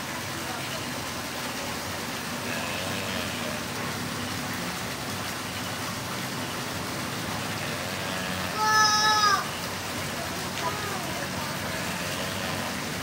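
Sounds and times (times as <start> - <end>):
waterfall splashing into pond: 0.0 - 13.0
tortoise mating calls: 2.1 - 13.0.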